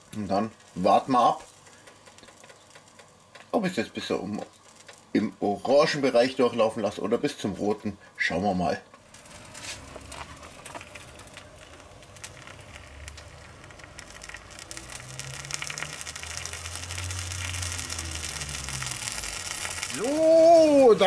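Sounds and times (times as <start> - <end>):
sandwich sizzling on a contact grill: 0.0 - 21.0.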